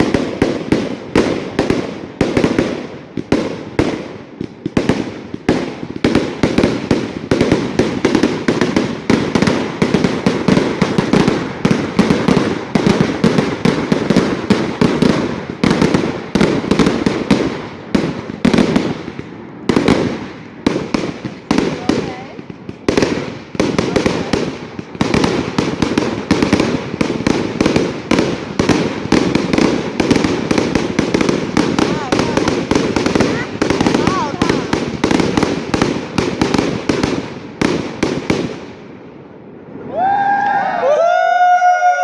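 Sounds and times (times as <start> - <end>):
fireworks cracking and banging: 0.0 - 39.8.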